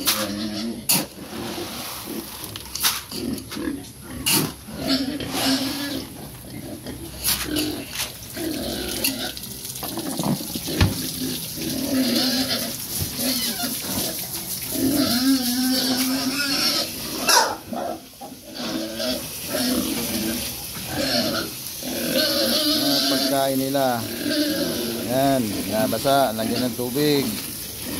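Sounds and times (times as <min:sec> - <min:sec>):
pigs grunting and squealing: 0:00.0 - 0:27.9.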